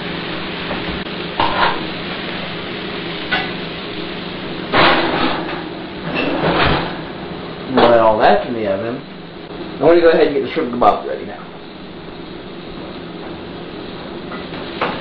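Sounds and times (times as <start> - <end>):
food sizzling in pan: 0.0 - 15.0.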